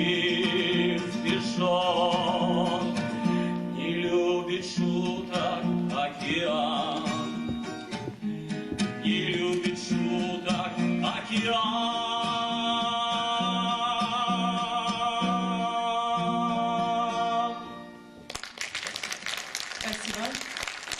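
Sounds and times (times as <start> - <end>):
acoustic guitar strumming: 0.0 - 18.3.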